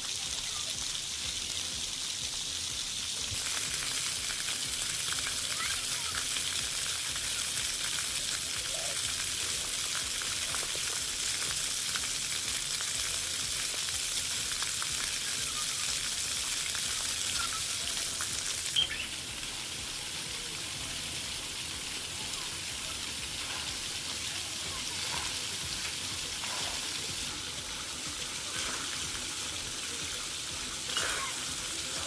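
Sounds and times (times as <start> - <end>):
water jets spraying on wet ground: 0.0 - 32.0.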